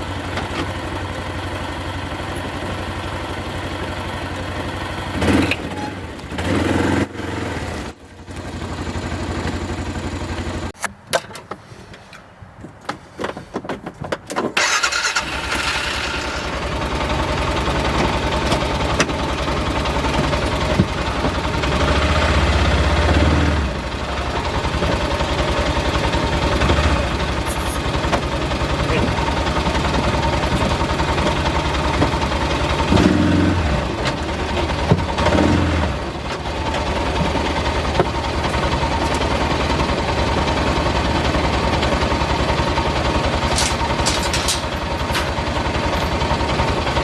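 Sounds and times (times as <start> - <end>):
vehicle engine running: 0.0 - 10.8, 14.7 - 47.0.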